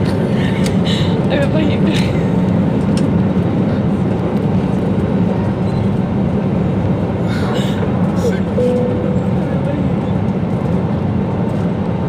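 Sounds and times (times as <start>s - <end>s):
jet engines low rumble in cabin: 0.0s - 12.0s.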